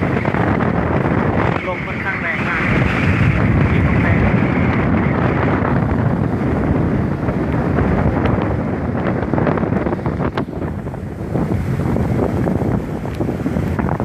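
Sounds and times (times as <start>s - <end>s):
strong wind buffeting microphone: 0.0s - 14.0s
surf rushing: 0.0s - 14.0s.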